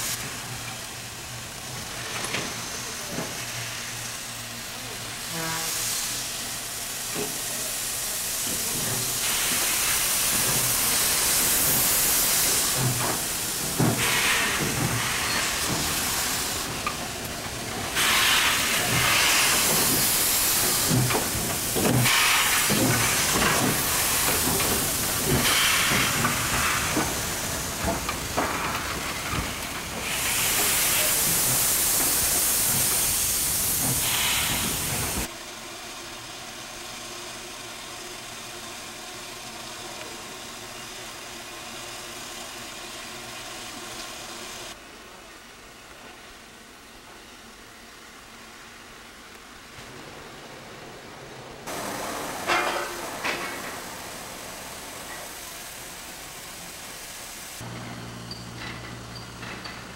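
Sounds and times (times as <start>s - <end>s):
steam hissing: 0.0s - 44.8s, 51.6s - 59.9s.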